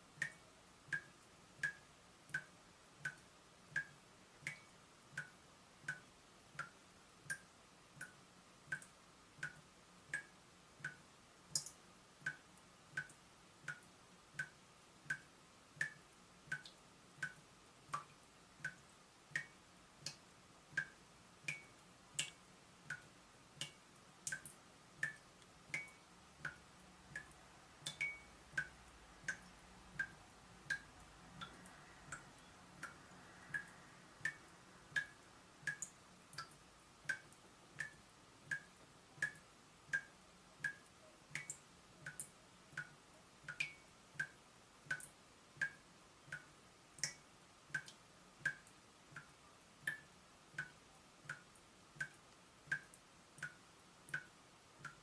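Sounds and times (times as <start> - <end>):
water dripping from tap: 0.2 - 55.0.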